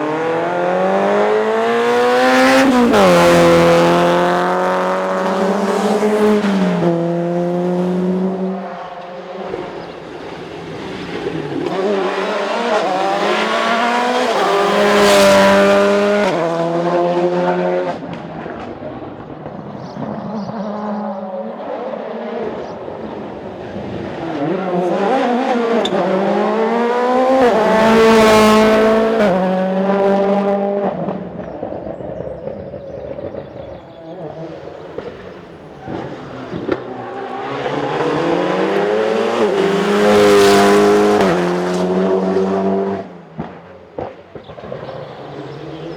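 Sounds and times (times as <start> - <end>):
rally cars passing at speed: 0.0 - 45.9.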